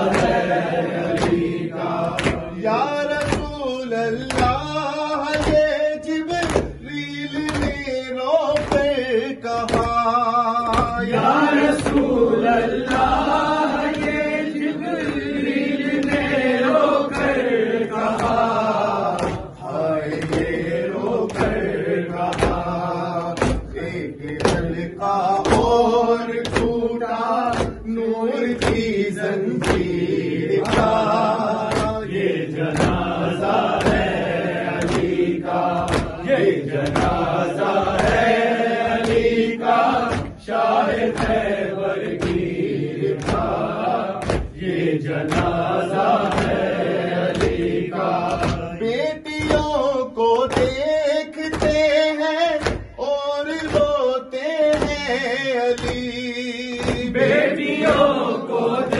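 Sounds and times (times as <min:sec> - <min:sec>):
group of men chanting: 0:00.0 - 0:50.8, 0:53.6 - 0:58.9
chest-beating slaps: 0:00.0 - 0:58.9
man chanting into a microphone: 0:00.0 - 0:58.9.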